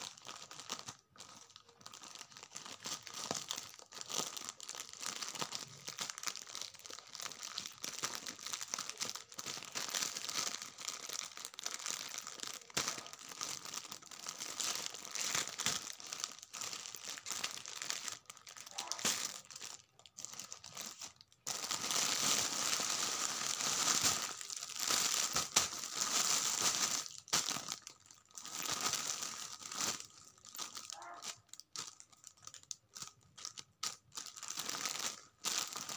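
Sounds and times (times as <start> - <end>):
plastic mailer bag crinkling: 0.0 - 35.9
plastic-wrapped package crinkling: 0.0 - 35.9.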